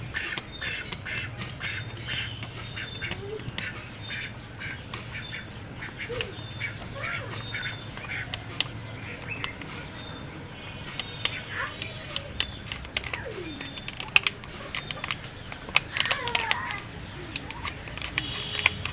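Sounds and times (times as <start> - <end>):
birds squawking: 0.0 - 18.9.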